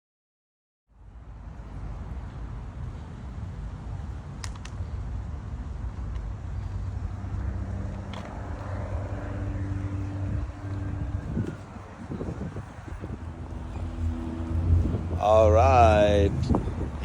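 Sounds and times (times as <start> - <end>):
vehicle rumble: 1.0 - 17.0
steady hum: 1.1 - 17.0.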